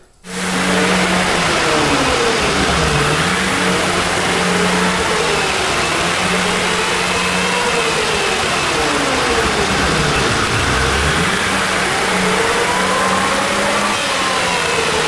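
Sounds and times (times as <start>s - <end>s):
snowmobile engine idling: 0.3s - 15.0s.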